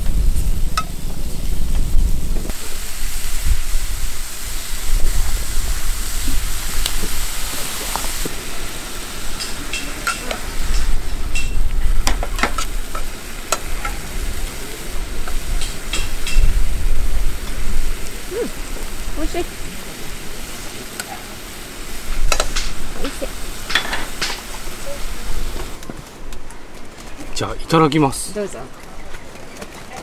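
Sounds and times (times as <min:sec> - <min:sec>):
mushrooms sizzling in a frying pan: 0:00.0 - 0:25.8.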